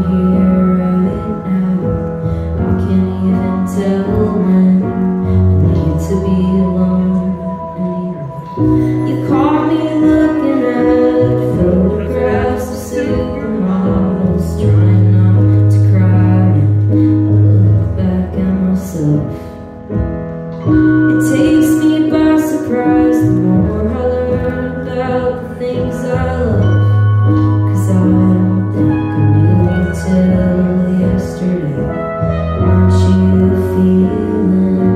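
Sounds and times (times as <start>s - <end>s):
person singing: 0.0s - 19.9s, 20.7s - 34.9s
electric bass notes: 0.0s - 34.9s
electric keyboard chords: 0.0s - 34.9s.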